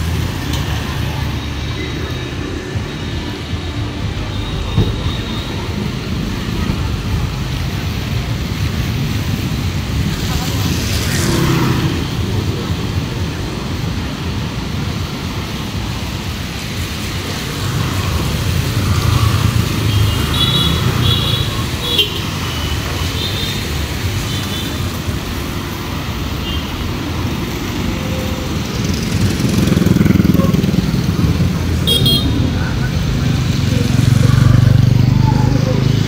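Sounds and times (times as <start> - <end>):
cars and motorbikes passing: 0.0 - 36.0.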